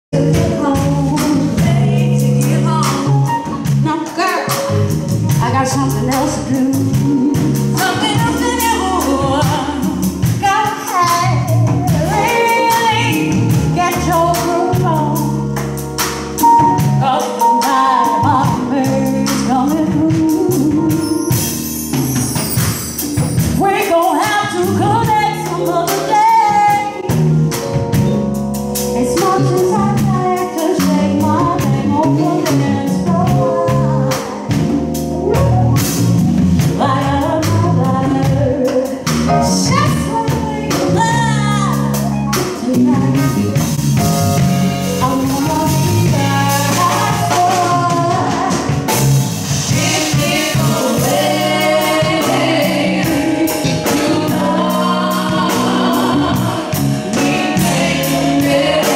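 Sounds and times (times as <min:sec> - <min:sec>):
band with steady beat: 0:00.1 - 0:58.9
woman singing gospel: 0:00.2 - 0:04.7, 0:05.3 - 0:15.6, 0:16.5 - 0:21.4, 0:23.6 - 0:27.4, 0:29.0 - 0:35.0, 0:36.6 - 0:43.7, 0:44.9 - 0:58.9.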